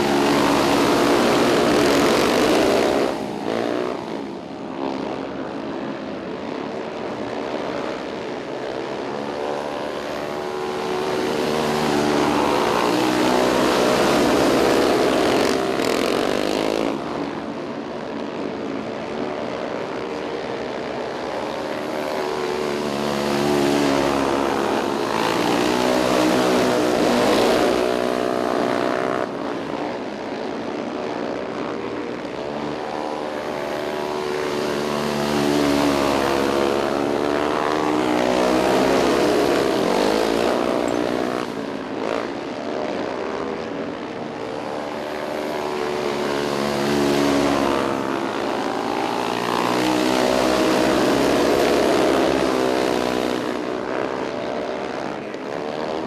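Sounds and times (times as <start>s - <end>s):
race car engines at high revs: 0.0s - 56.0s.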